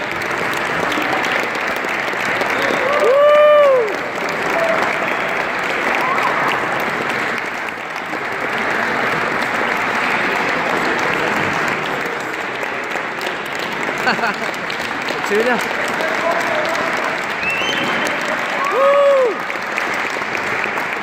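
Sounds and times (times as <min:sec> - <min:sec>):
people clapping: 0:00.0 - 0:21.0.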